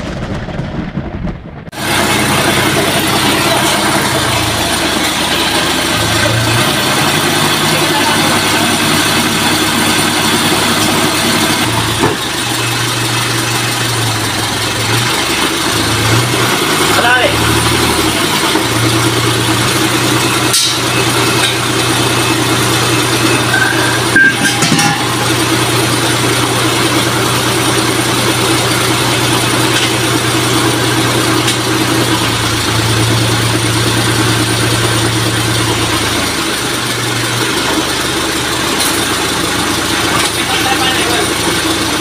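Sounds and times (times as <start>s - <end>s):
truck engine idling: 0.0s - 42.0s.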